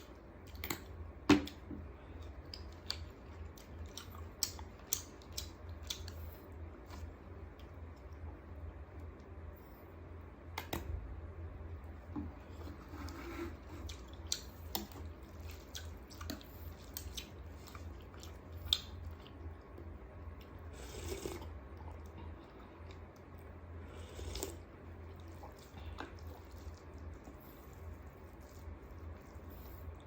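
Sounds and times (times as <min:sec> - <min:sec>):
wet squishy eating sounds: 0:00.0 - 0:09.7, 0:13.5 - 0:30.0
low steady hum: 0:00.0 - 0:30.0.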